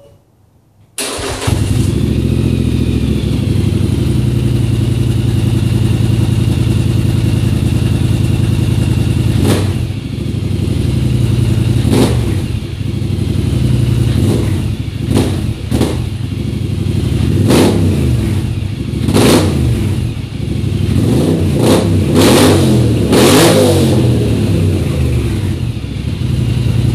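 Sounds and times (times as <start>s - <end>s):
atv engine revving: 1.0s - 4.2s, 5.1s - 26.9s.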